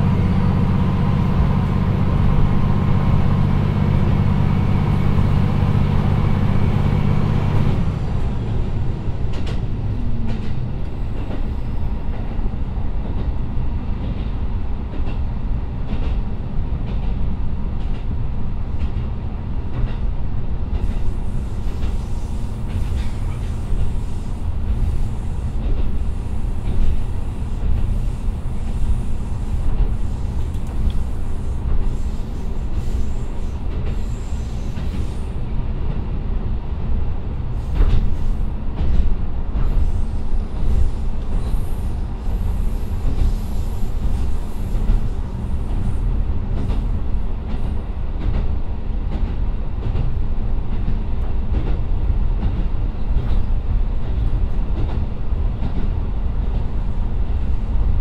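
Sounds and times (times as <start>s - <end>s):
railcar engine and wheels drone: 0.0s - 58.0s.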